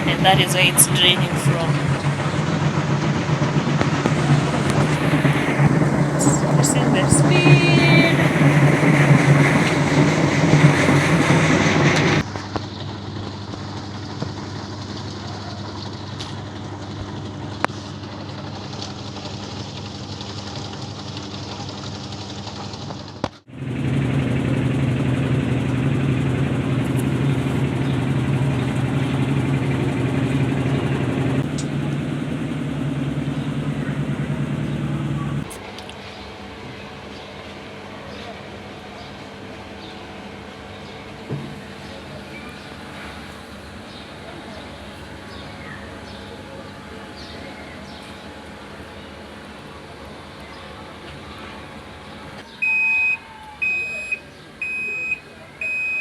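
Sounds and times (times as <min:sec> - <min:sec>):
washing machine spin hum: 0:00.0 - 0:56.0.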